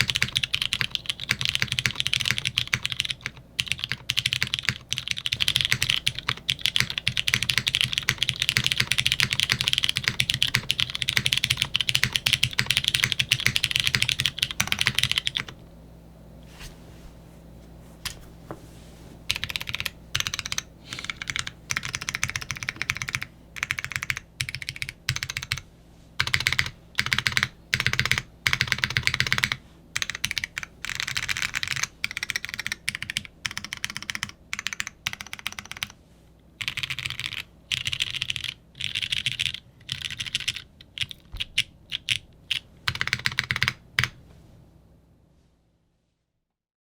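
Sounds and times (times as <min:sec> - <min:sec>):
mechanical keyboard typing: 0:00.0 - 0:15.6, 0:19.3 - 0:25.6, 0:26.2 - 0:36.0, 0:36.6 - 0:44.2.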